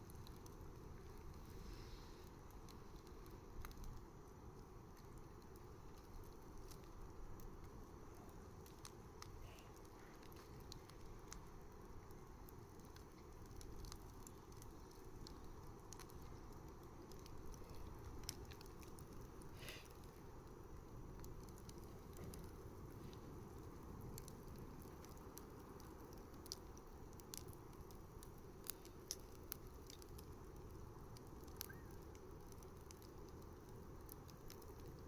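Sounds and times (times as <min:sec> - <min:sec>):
fire crackling and popping: 0:00.0 - 0:35.0
low rumble of flames: 0:00.0 - 0:35.0.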